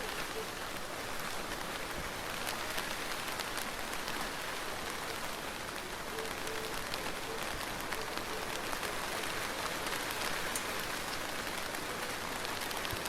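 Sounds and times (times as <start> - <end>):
raindrops ticking: 0.0 - 13.0
steady rain hiss: 0.0 - 13.0.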